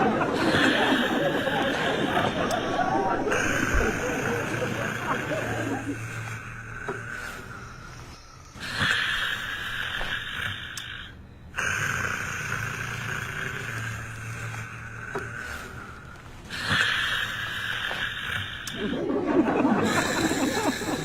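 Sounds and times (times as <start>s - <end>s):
person snoring: 0.0s - 21.0s.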